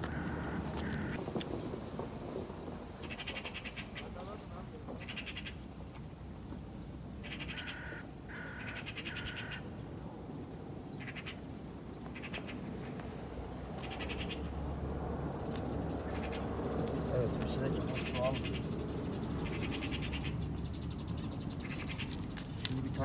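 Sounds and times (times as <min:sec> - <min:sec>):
low outdoor background: 0:00.0 - 0:23.0.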